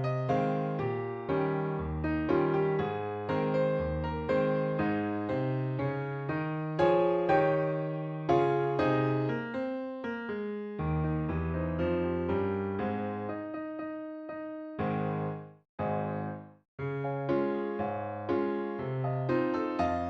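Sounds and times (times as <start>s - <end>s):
gentle keyboard melody: 0.0s - 20.0s.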